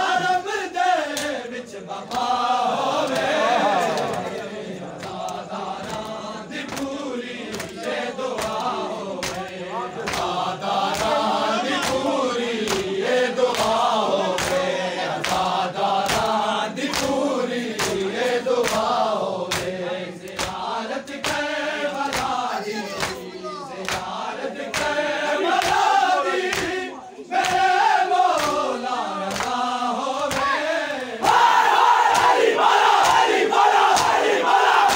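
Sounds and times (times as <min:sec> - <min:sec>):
men chanting in unison: 0:00.0 - 0:34.9
hands slapping bare chests: 0:01.1 - 0:01.4, 0:02.1 - 0:02.3, 0:03.0 - 0:12.9, 0:13.5 - 0:25.0, 0:25.6 - 0:26.8, 0:27.4 - 0:27.7, 0:28.3 - 0:34.9.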